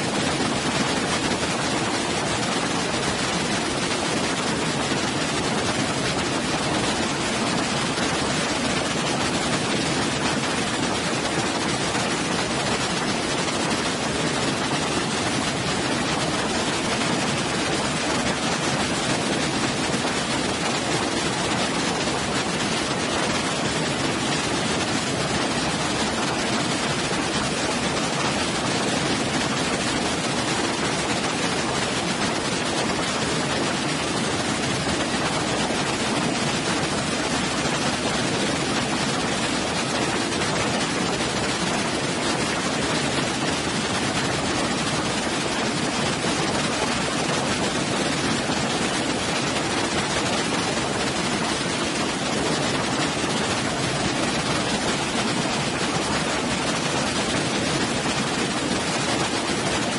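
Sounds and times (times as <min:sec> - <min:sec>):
waterfall pouring into a pool: 0:00.0 - 0:59.9.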